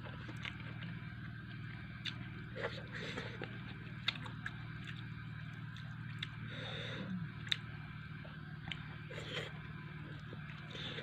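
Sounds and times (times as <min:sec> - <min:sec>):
chewing: 0:00.0 - 0:01.3, 0:01.9 - 0:06.4, 0:07.0 - 0:11.0
steady low hum: 0:00.0 - 0:11.0.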